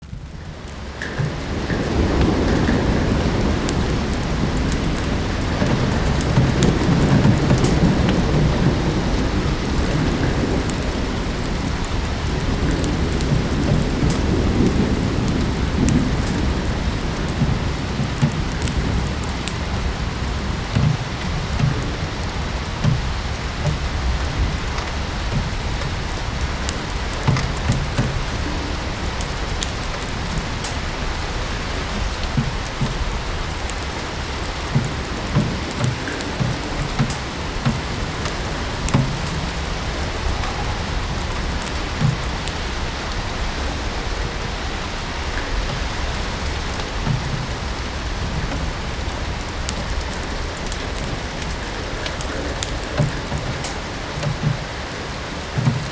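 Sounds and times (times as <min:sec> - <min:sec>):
steady rain falling: 0:00.0 - 0:55.9
wood fire crackling: 0:00.0 - 0:55.9
soft low knocks: 0:00.9 - 0:55.9.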